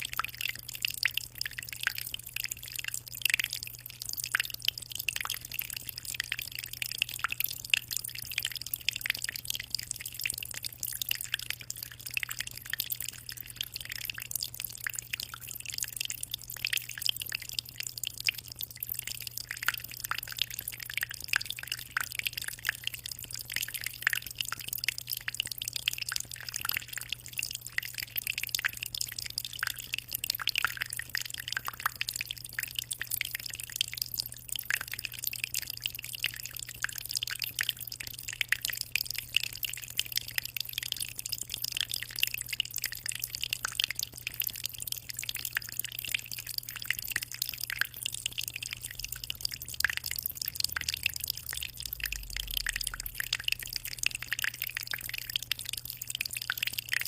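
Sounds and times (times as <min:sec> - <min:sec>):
aquarium water trickling and bubbling: 0:00.0 - 0:57.0
low steady hum: 0:00.0 - 0:57.0.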